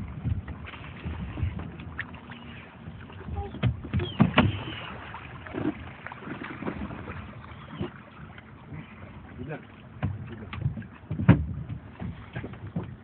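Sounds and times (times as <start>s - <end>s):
water splashing around boat: 0.0s - 13.0s.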